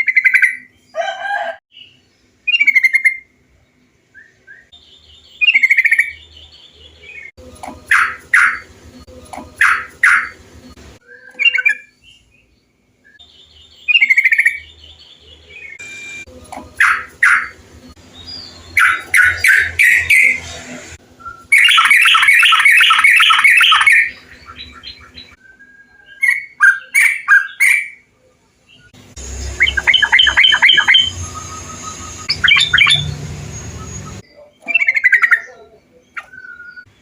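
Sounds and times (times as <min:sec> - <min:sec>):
bulbul song: 0:04.0 - 0:20.4, 0:21.0 - 0:28.1, 0:28.7 - 0:37.0.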